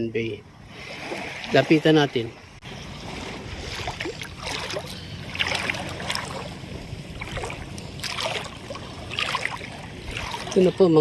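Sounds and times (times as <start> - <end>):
water splashing and sloshing: 0.5 - 11.0.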